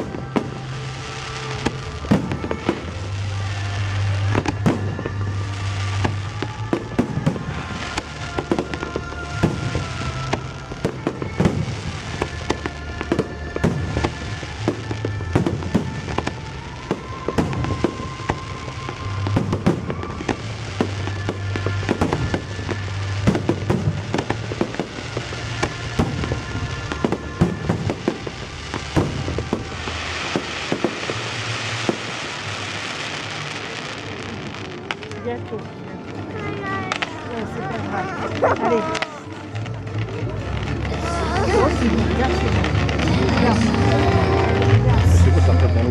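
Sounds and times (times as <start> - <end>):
fireworks bangs and pops: 0.0 - 45.9
fireworks crackling: 0.0 - 45.9.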